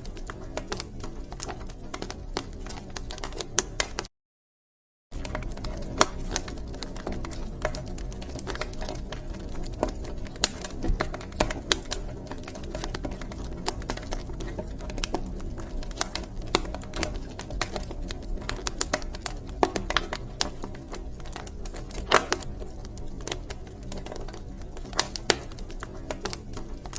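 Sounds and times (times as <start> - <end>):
wood fire crackling: 0.0 - 4.1, 5.1 - 26.9.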